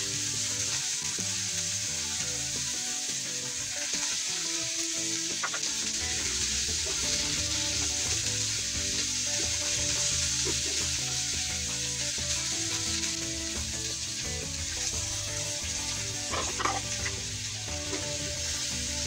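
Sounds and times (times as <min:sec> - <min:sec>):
meat sizzling in a frying pan: 0:00.0 - 0:19.0
soft background music: 0:00.0 - 0:19.0.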